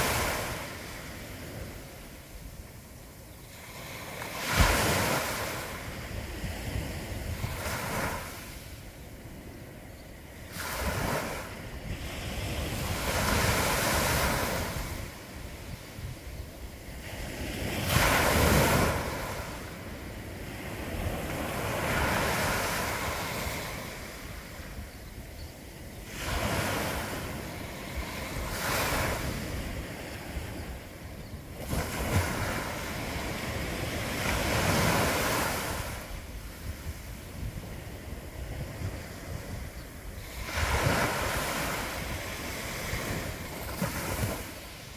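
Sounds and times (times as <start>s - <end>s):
waves washing up a sandy beach: 0.0s - 44.9s.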